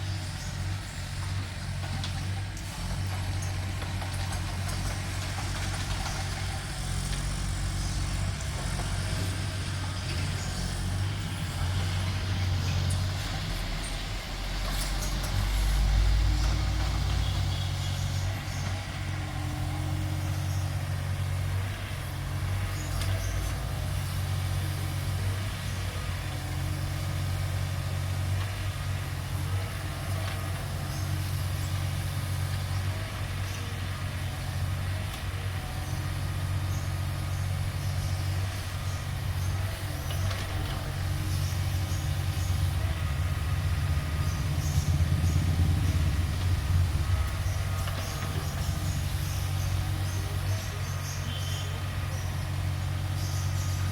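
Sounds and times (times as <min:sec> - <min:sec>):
heavy diesel engine rumbling: 0:00.0 - 0:53.9.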